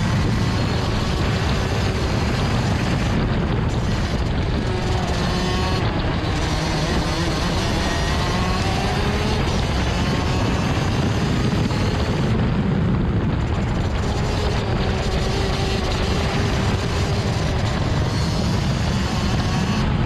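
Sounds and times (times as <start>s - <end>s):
kart engine running: 0.0s - 20.0s
wind rumble on microphone: 0.0s - 20.0s.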